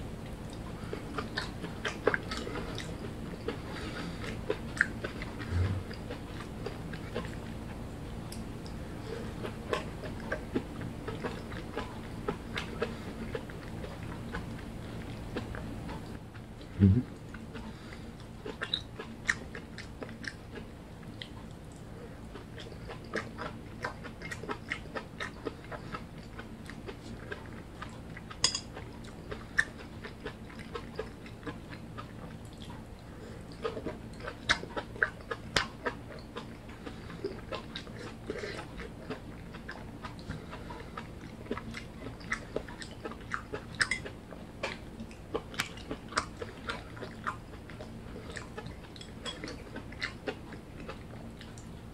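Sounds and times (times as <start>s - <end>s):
wet chewing clicks: 0.4s - 51.9s.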